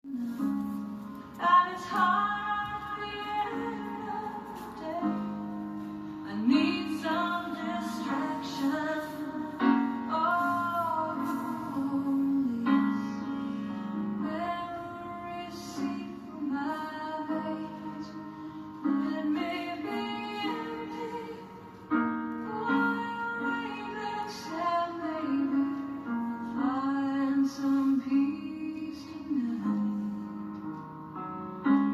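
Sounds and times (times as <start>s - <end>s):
woman singing: 0.0s - 30.5s.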